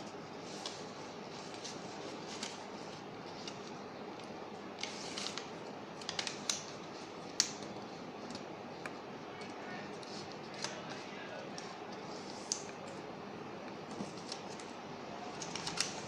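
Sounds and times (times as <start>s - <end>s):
paper crinkling: 0.4s - 8.5s, 9.4s - 13.0s, 13.9s - 16.0s.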